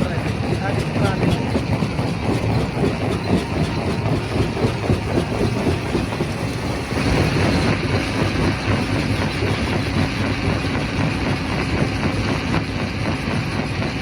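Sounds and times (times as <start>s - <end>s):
rock crusher drone: 0.0s - 14.0s.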